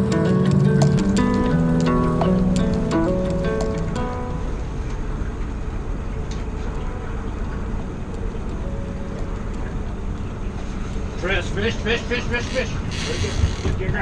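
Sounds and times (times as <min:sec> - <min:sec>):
outboard motor humming: 0:00.0 - 0:14.0.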